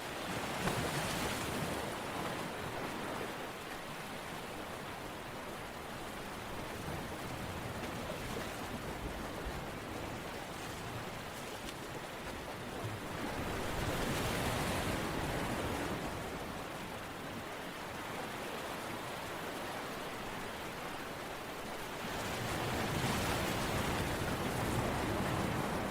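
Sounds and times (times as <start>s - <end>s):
rushing water: 0.0s - 25.9s.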